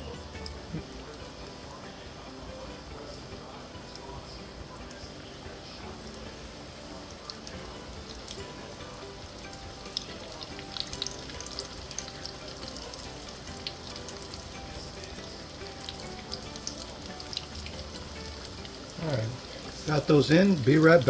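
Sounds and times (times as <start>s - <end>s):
deep-frying sizzle with pops: 0.0s - 21.0s.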